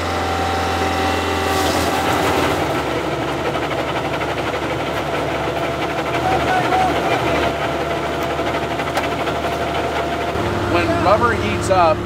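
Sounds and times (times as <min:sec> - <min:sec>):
diesel engine running: 0:00.0 - 0:12.0
tires grinding on concrete: 0:00.0 - 0:12.0.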